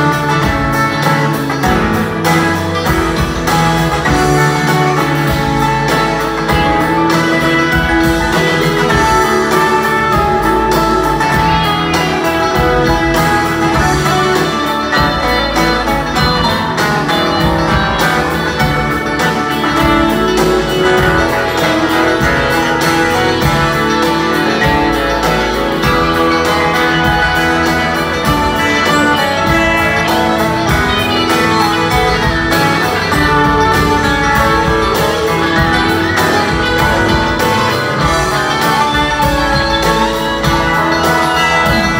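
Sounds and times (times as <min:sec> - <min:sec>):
live band playing: 0:00.0 - 0:41.9.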